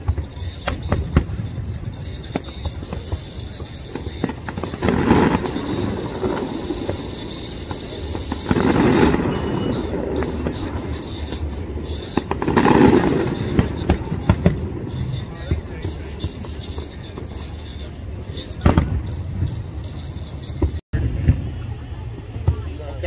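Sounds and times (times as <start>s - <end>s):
fireworks crackling pops: 0.0s - 21.6s.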